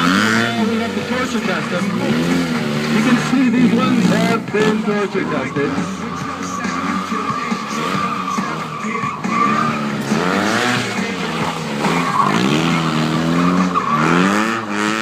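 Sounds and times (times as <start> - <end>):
motorcycle engine revving hard: 0.0 - 15.0
tyre squealing on pavement: 0.0 - 15.0.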